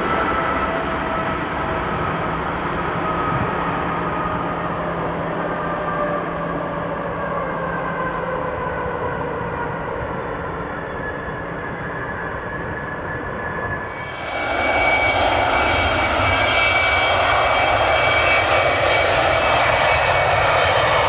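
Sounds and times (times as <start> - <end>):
jet engines at takeoff power: 0.0 - 21.0
jet engines rumbling on landing: 0.0 - 21.0.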